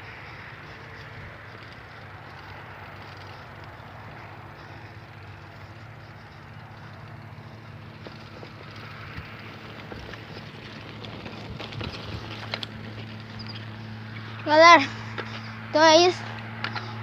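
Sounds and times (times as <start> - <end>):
bicycle clicks and rattles: 0.0 - 17.0
bicycle tyres rolling on trail: 0.0 - 17.0.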